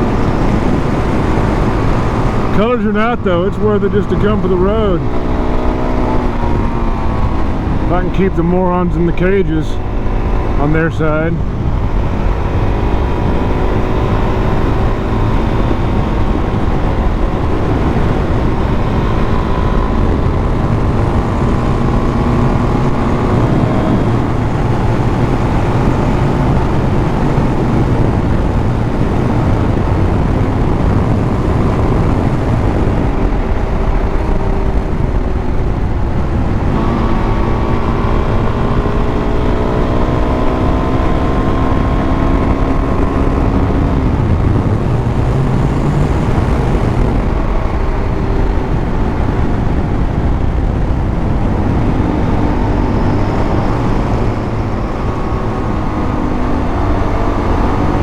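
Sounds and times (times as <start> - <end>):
motorcycle engine running: 0.0 - 58.0
wind rush: 0.0 - 58.0.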